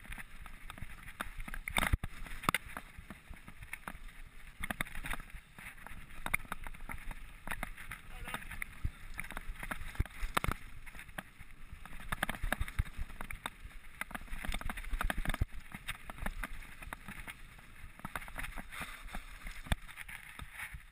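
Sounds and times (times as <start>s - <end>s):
bike clattering and knocking: 0.0s - 20.5s
tyres crunching over gravel: 0.0s - 20.9s.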